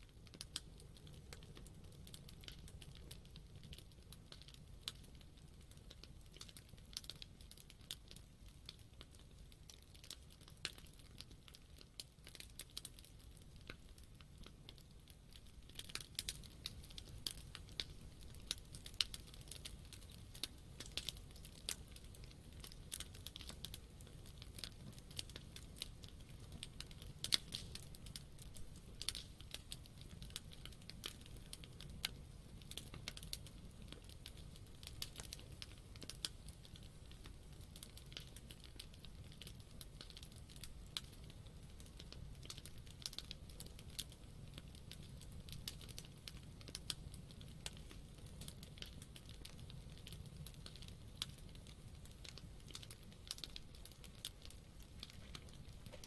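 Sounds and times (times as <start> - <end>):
campfire crackling and popping: 0.0 - 56.0
low rumble of burning fire: 0.0 - 56.0.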